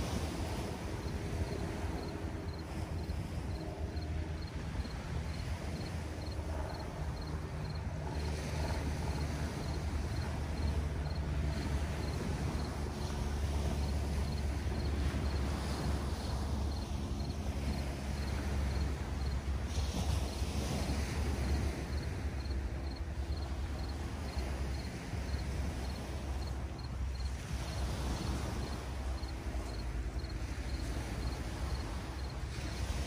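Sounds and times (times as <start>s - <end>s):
gentle surf: 0.0s - 33.0s
wind on microphone: 0.0s - 33.0s
faint high insect chirp: 1.0s - 8.4s, 9.0s - 19.5s, 20.2s - 32.7s.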